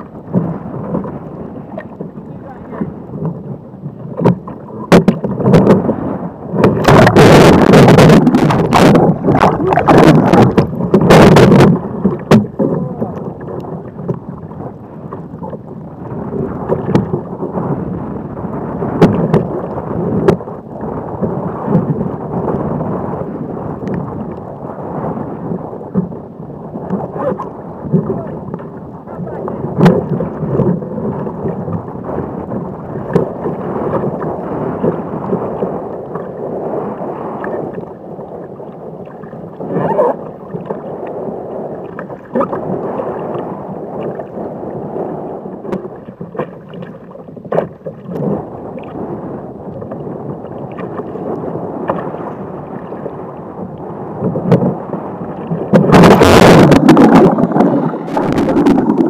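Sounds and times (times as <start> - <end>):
surf sloshing around kayak: 0.0 - 59.0
wave breaking: 0.0 - 59.0.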